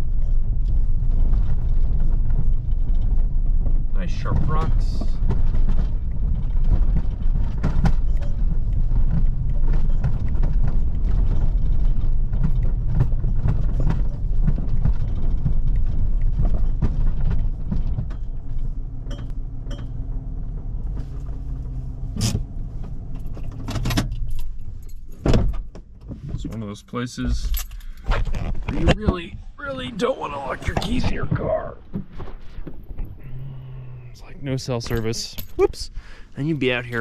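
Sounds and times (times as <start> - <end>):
car engine and tyre rumble: 0.0 - 37.0
suspension creaks and rattles: 0.0 - 37.0.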